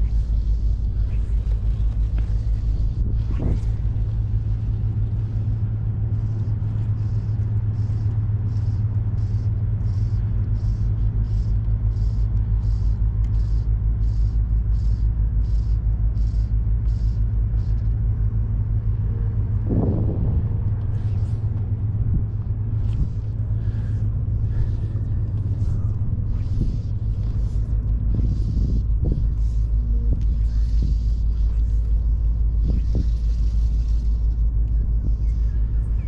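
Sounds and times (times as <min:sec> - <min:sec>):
boat engine humming: 0:00.0 - 0:36.0
faint pulsing hiss: 0:00.0 - 0:36.0.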